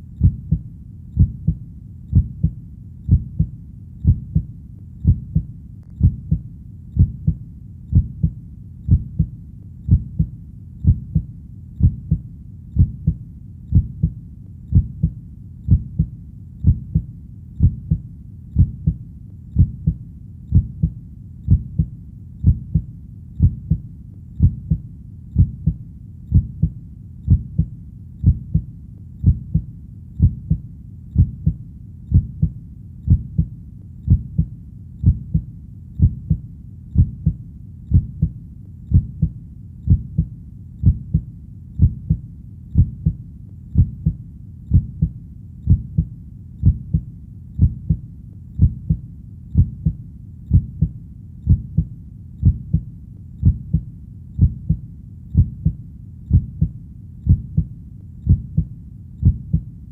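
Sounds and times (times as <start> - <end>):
heartbeat double thumps: 0.0 - 36.4, 37.0 - 59.7.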